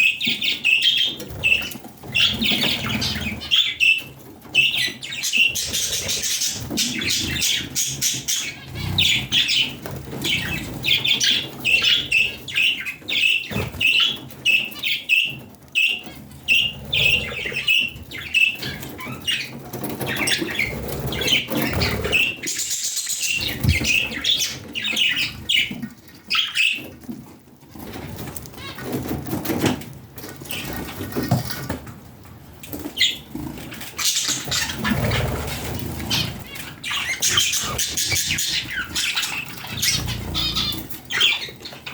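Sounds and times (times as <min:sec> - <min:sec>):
budgerigars chirping: 0:00.0 - 0:27.1, 0:32.8 - 0:41.9.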